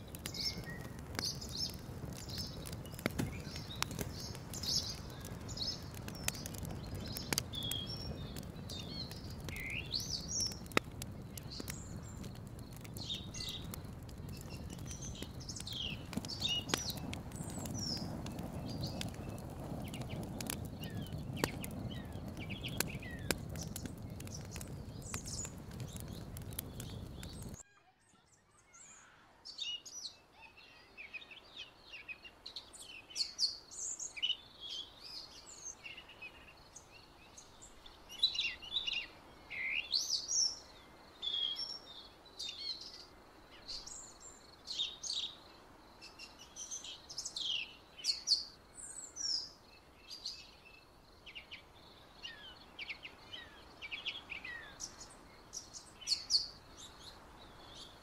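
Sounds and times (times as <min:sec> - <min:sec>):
faint steady hiss: 0:00.0 - 0:27.8, 0:28.4 - 0:58.0
songbirds chirping: 0:00.0 - 0:58.0.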